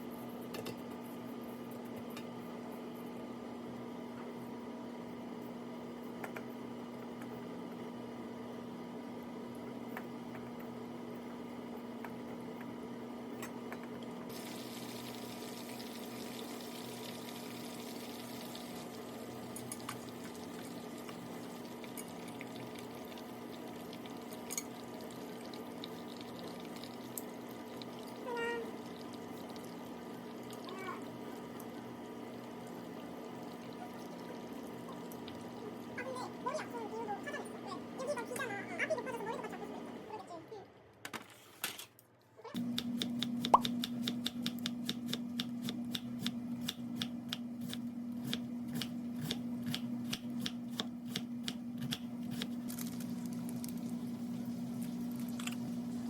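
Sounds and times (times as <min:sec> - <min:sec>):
electrical hum: 0:00.0 - 0:41.0, 0:42.4 - 0:56.0.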